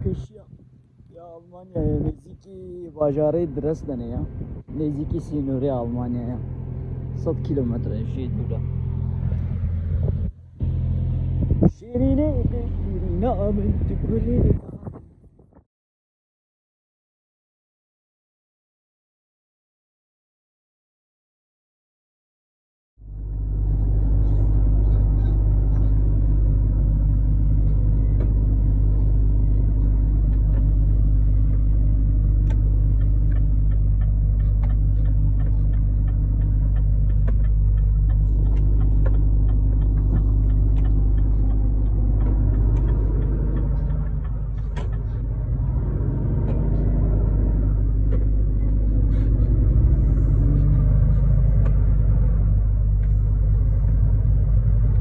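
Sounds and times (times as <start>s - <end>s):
truck engine and road rumble: 0.0s - 15.6s, 23.0s - 55.0s.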